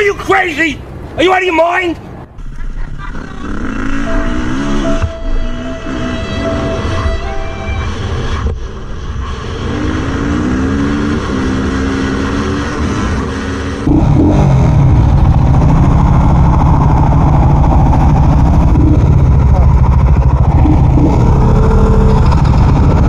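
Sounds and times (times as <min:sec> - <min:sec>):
motorcycle engine accelerating: 0:02.4 - 0:23.0.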